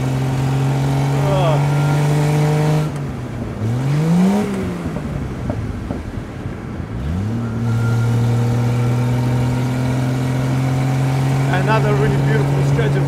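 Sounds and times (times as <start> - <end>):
car engine revving: 0.0 - 13.0
wet road noise: 0.0 - 13.0.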